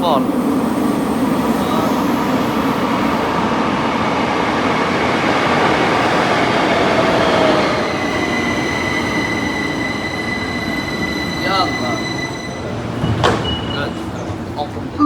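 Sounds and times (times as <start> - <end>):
train rushing rumble: 0.0 - 15.0.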